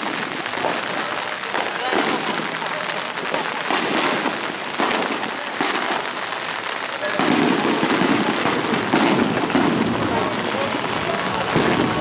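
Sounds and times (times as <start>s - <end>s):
heavy rain on road: 0.0s - 12.0s.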